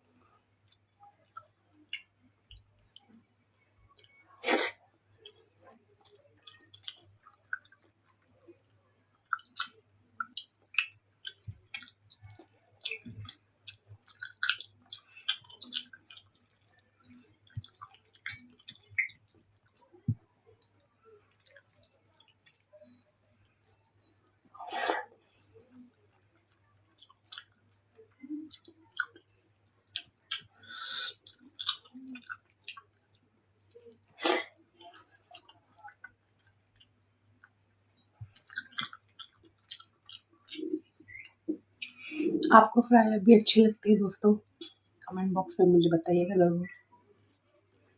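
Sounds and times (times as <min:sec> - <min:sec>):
chewing and wet mouth smacks: 0:00.7 - 0:04.2, 0:05.2 - 0:08.2, 0:09.1 - 0:24.7, 0:25.8 - 0:42.5, 0:47.2 - 0:47.6.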